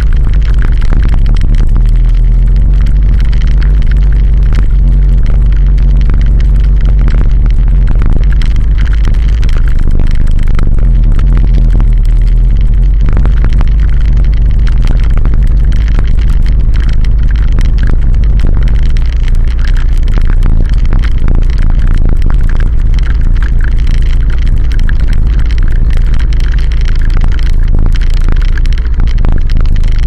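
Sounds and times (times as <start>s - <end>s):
vehicle engine running: 0.0s - 30.0s
wind rumble on microphone: 0.0s - 30.0s.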